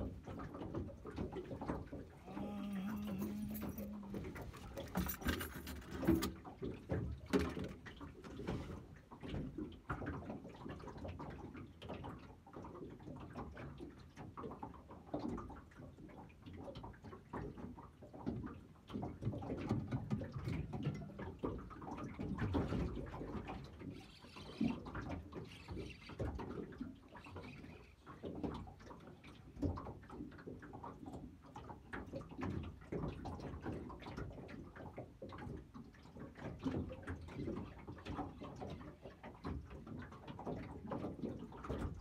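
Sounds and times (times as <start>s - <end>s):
water sloshing against boat hull: 0.0s - 42.0s.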